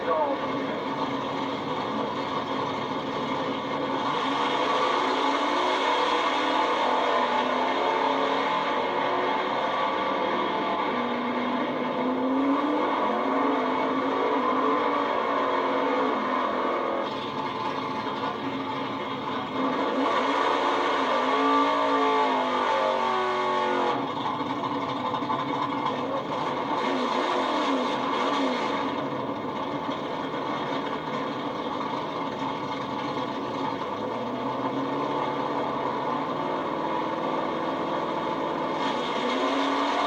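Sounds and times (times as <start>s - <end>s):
racing engines revving: 0.0s - 40.0s.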